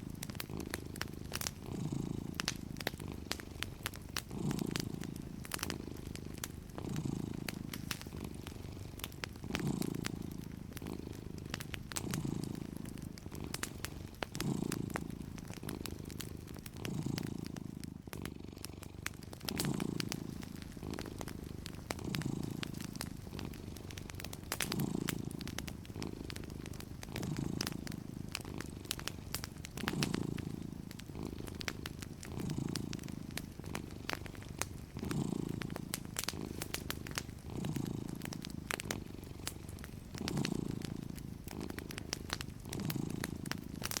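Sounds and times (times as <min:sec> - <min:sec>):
cat purring: 0:00.0 - 0:44.0
wood fire crackling: 0:00.0 - 0:44.0.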